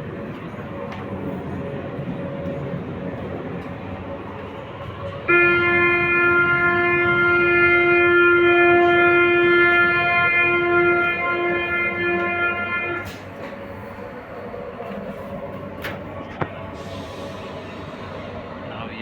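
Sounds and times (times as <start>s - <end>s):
train humming at station: 0.0s - 19.0s.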